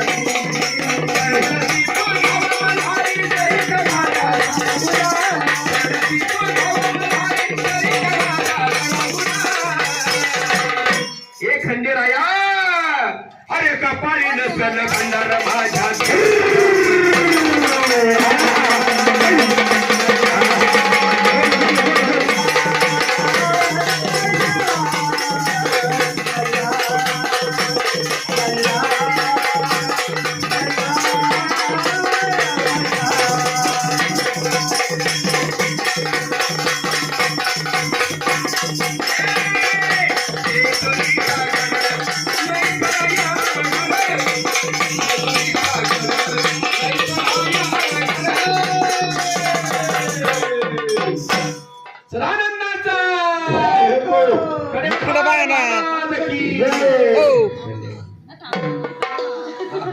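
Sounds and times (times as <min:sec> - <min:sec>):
fast drumming: 0:00.0 - 0:11.8, 0:13.5 - 0:57.5, 0:58.4 - 0:59.9
jingling rattling percussion: 0:00.0 - 0:12.4, 0:14.2 - 0:53.2, 0:54.9 - 0:57.8.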